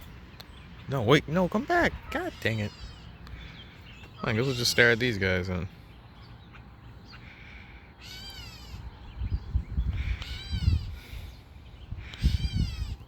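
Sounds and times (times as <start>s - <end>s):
bird calling: 0.0s - 13.0s.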